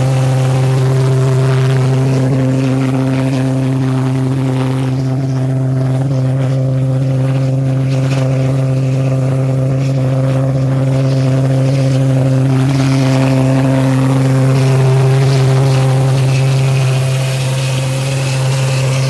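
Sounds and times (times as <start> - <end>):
jet engine droning: 0.0 - 19.0.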